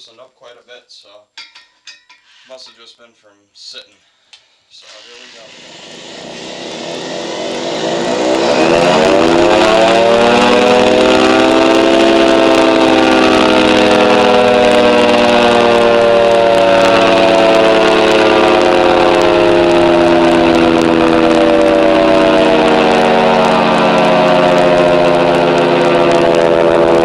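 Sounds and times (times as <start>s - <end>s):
siren winding up: 4.8s - 27.0s.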